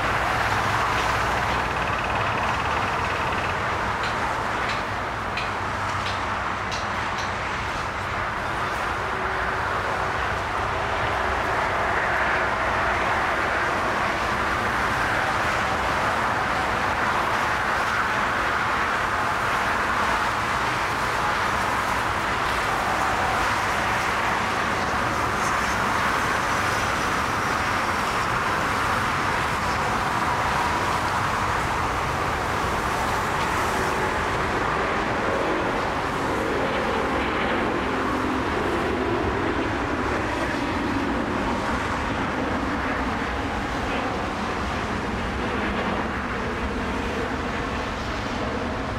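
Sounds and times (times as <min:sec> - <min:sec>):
jet engine roar at takeoff: 0:00.0 - 0:48.9.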